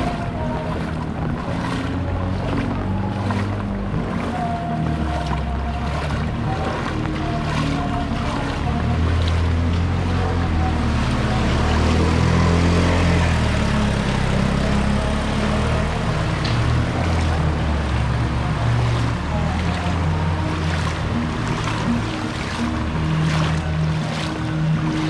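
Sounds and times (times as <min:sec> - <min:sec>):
floodwater sloshing and splashing: 0:00.0 - 0:25.0.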